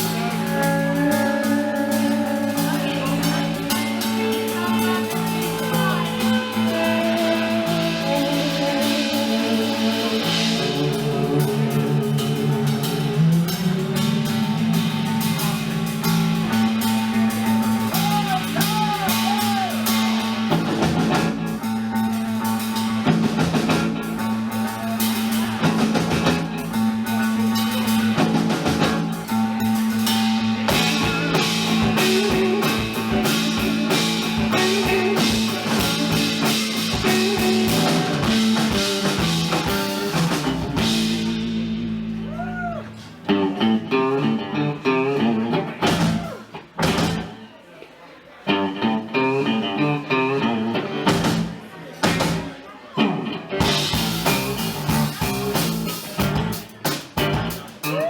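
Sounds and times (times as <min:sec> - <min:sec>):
drum kit beat: 0:00.0 - 0:42.9, 0:45.7 - 0:47.4, 0:51.0 - 0:52.6, 0:53.6 - 0:58.0
live band playing funk: 0:00.0 - 0:47.5, 0:48.5 - 0:58.0
guitar: 0:00.0 - 0:58.0.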